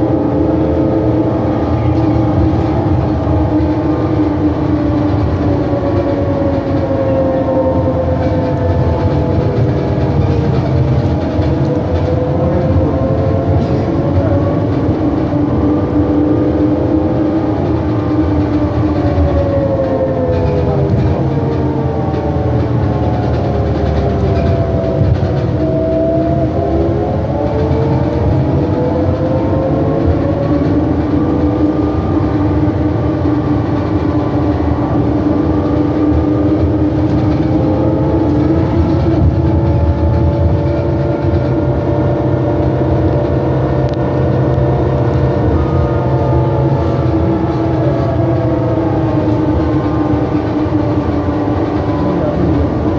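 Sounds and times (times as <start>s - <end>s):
heavy rumble: 0.0s - 52.9s
trolleybus drivetrain whining: 0.0s - 52.9s.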